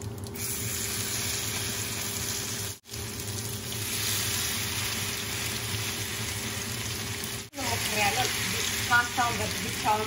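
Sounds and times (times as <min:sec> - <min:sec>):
hot oil sizzling in a pan: 0:00.3 - 0:10.0.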